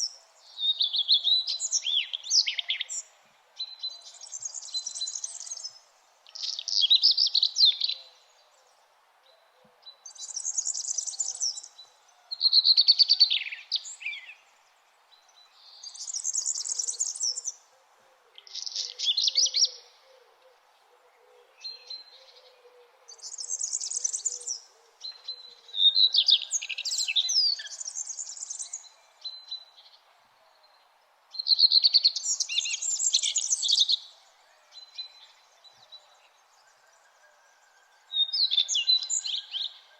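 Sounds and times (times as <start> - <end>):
faint steady background noise: 0.0 - 39.9
songbirds chirping and trilling: 0.0 - 39.9.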